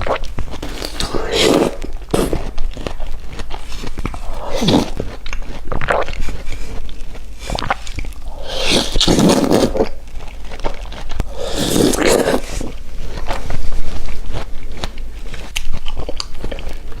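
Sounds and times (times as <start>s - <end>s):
crunchy chewing: 0.0s - 17.0s
wet mouth noises: 0.0s - 17.0s.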